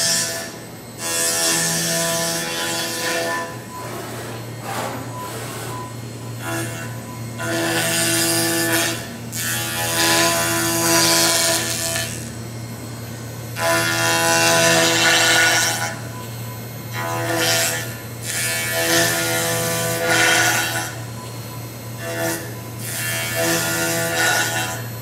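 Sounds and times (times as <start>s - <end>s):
cutter cutting wood with whine: 0.0s - 25.0s
milling machine hum: 0.0s - 25.0s.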